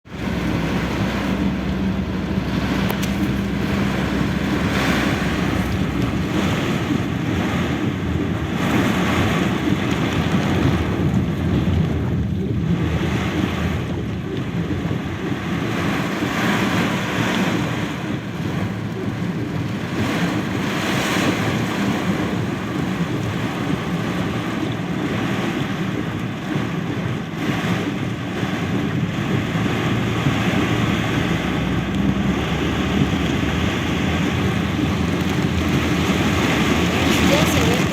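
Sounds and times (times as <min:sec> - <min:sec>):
heavy rain: 0:00.0 - 0:37.9.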